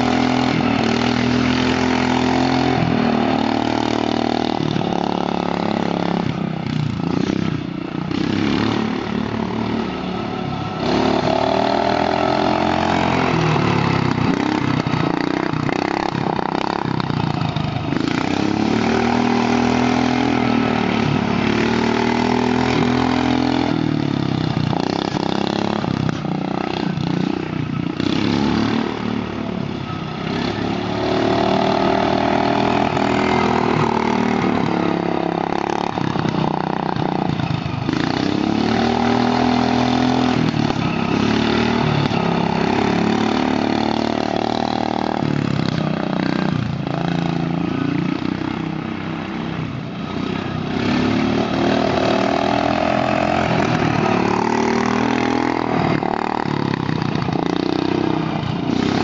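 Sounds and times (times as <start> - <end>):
garden tractor engines racing: 0.0 - 59.0.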